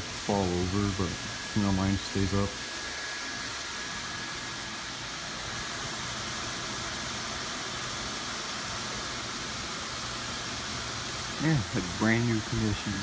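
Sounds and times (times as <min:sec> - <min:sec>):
blower fan whooshing: 0:00.0 - 0:13.0
faint high whine: 0:00.0 - 0:13.0.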